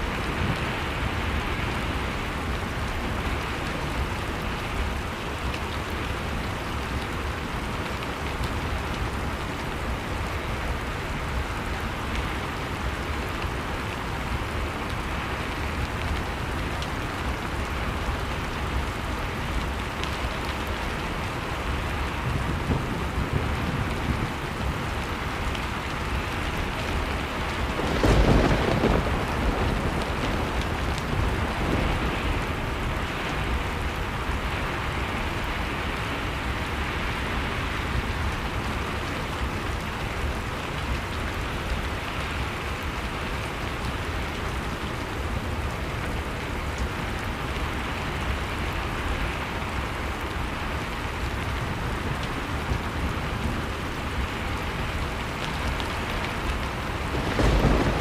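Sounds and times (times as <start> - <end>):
blizzard wind: 0.0 - 58.0.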